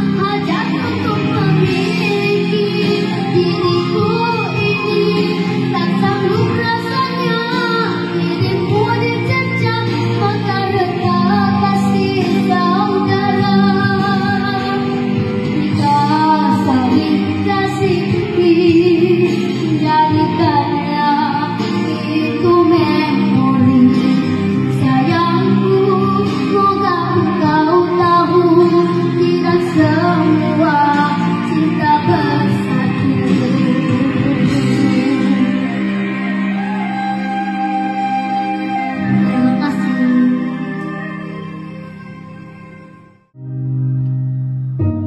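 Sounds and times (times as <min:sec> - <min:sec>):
girl singing into microphone: 0:00.0 - 0:42.9
music accompaniment: 0:00.0 - 0:45.0.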